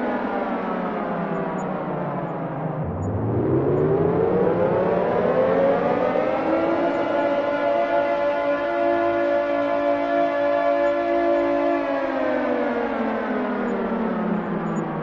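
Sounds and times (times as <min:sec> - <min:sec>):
air-raid siren wailing: 0:00.0 - 0:15.0.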